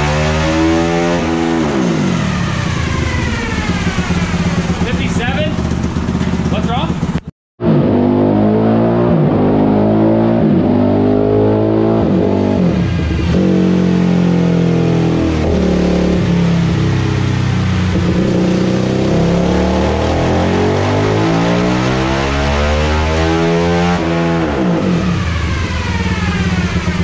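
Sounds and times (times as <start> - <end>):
engine revving on a dyno: 0.0 - 6.5, 7.6 - 27.0.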